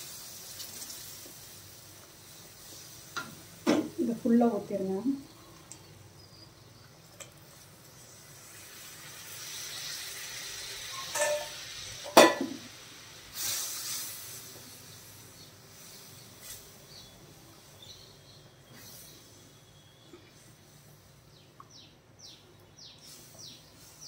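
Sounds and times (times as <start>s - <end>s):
syrup sizzling and hissing: 0.0s - 21.4s, 23.0s - 24.0s.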